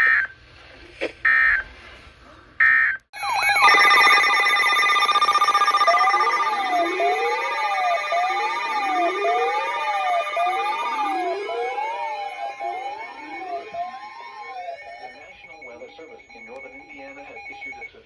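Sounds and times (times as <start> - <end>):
siren-like alarm tone sweeping: 3.2 - 17.7
steady high attention tone: 3.2 - 17.9.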